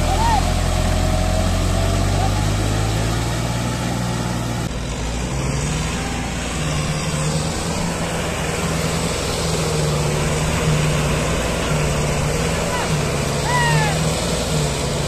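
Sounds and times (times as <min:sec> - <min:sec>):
tractor diesel engines straining: 0:00.0 - 0:15.0.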